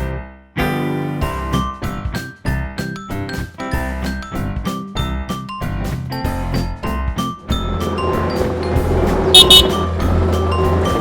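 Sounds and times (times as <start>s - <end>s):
background music with chiming notes: 1.2s - 11.0s.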